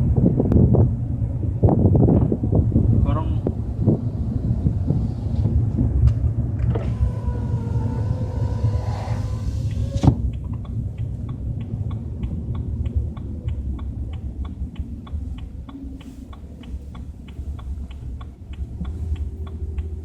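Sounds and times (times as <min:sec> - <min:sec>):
low rumble in car cabin: 0:00.0 - 0:20.0
steady ticking: 0:02.4 - 0:20.0.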